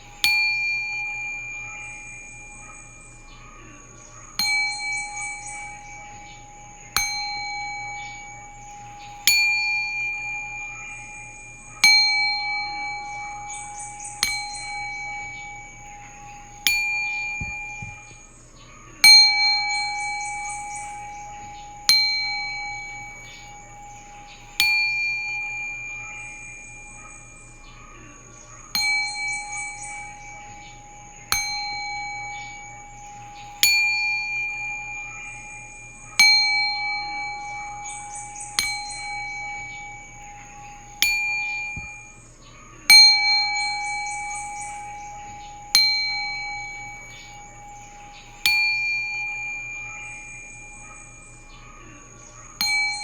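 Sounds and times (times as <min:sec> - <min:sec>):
singing bowl struck with mallet: 0:00.0 - 0:53.0.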